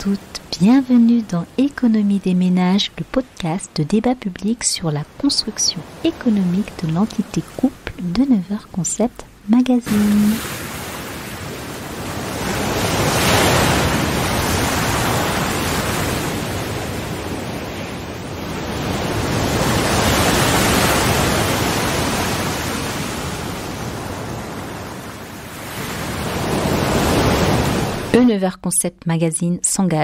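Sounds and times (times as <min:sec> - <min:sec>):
sea waves washing on shore: 0:00.0 - 0:08.9, 0:09.7 - 0:28.2.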